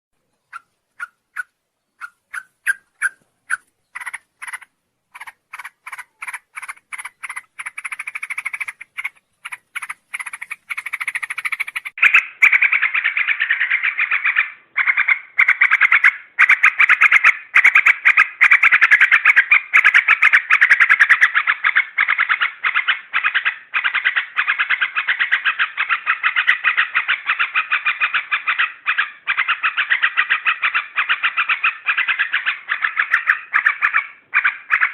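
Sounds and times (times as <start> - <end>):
bird chattering calls: 0.3 - 34.9.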